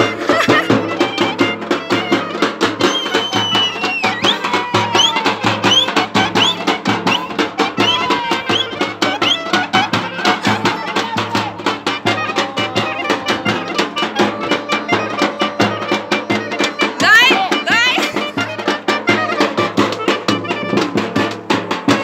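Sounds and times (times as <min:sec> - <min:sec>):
clarinet playing fast melody: 0:00.0 - 0:22.0
driving drumbeat: 0:00.0 - 0:22.0.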